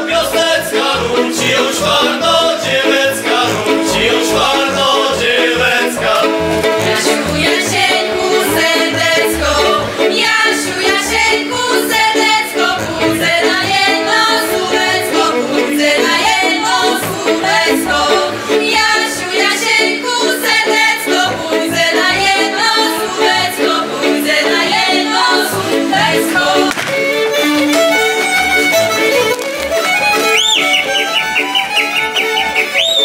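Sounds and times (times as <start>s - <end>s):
folk band playing: 0.0s - 33.0s.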